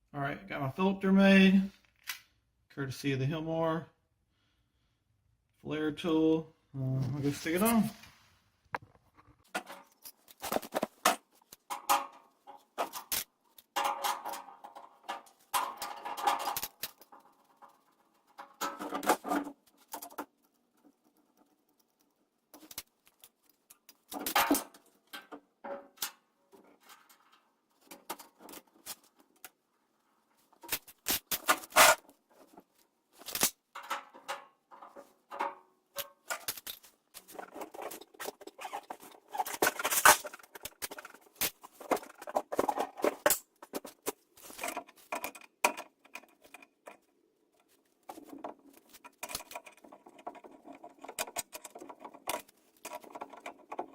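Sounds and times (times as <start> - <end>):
hand tools and metal fittings clinking: 8.8 - 29.6, 30.4 - 53.9.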